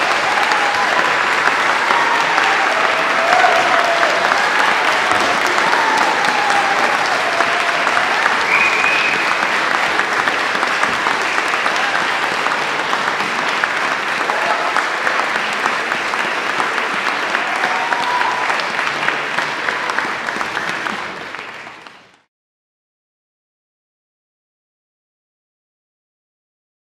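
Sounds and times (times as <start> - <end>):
audience applauding: 0.0 - 22.3.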